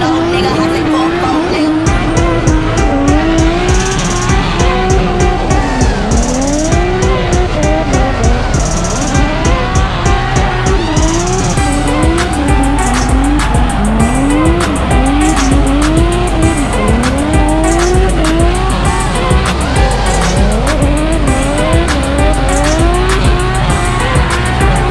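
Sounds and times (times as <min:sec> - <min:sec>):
car engine revving hard: 0:00.0 - 0:24.9
music with a steady beat: 0:01.7 - 0:24.9.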